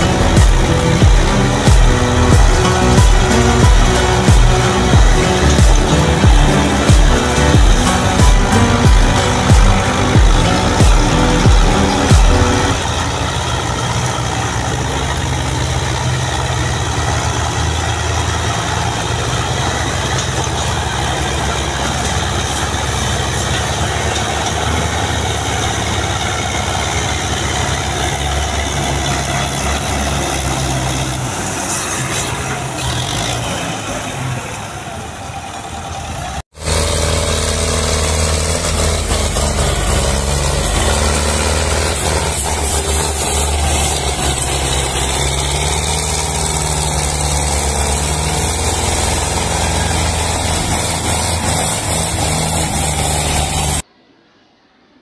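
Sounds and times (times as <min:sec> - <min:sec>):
heavy diesel engine running: 0:00.0 - 0:54.2
tractor diesel engine under load: 0:00.0 - 0:54.3.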